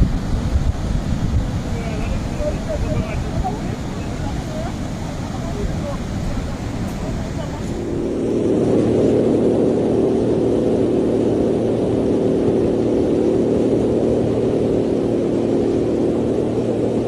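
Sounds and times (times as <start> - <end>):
mechanical drone with low hum: 0.0 - 17.0.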